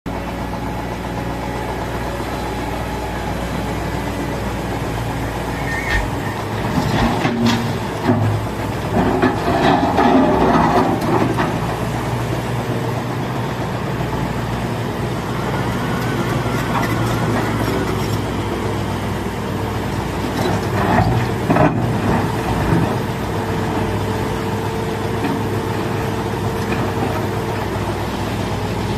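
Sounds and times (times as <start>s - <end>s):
excavator diesel engine running: 0.1s - 28.9s.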